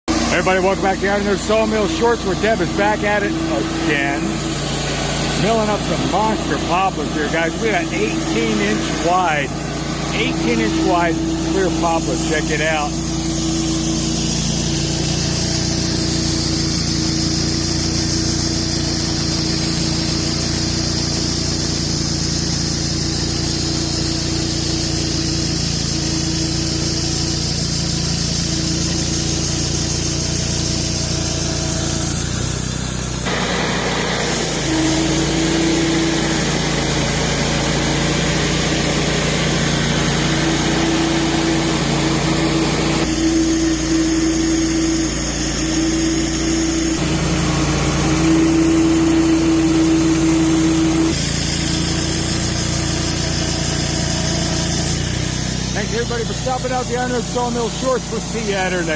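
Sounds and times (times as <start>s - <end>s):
saw cutting through log: 0.1s - 58.9s
sawmill engine running: 0.1s - 58.9s.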